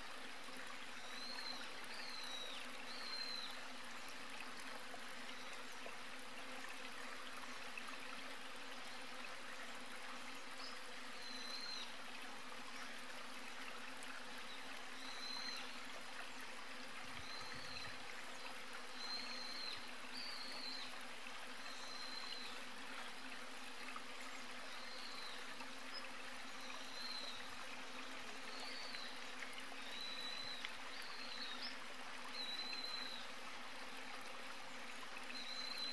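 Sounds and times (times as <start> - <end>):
outdoor background hiss: 0.0 - 35.9.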